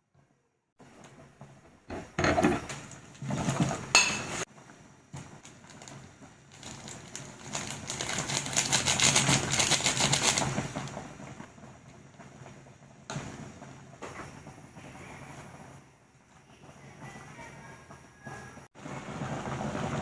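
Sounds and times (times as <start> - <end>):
soup boiling crackle: 0.8 - 20.0.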